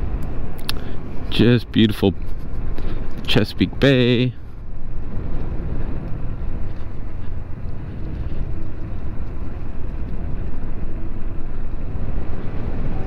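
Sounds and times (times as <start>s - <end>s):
steady low rumble: 0.0s - 13.0s
tires crunching over gravel and leaves: 1.9s - 12.9s.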